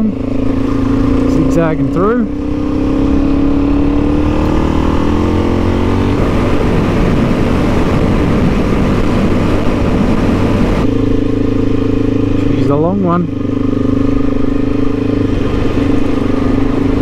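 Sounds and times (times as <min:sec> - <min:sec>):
dirt bike engine: 0:00.0 - 0:17.0.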